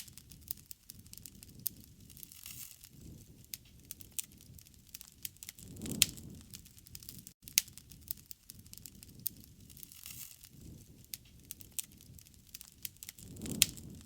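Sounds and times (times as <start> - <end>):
campfire crackling: 0.0 - 14.0
low rumble of flames: 0.0 - 14.0
sharp pops from fire: 0.0 - 14.0.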